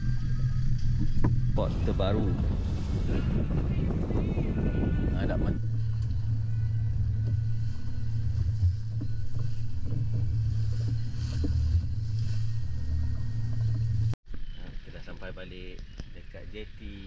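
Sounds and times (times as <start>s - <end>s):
water noise: 0.0s - 14.2s
boat engine running: 0.0s - 17.0s
wind: 0.0s - 17.0s.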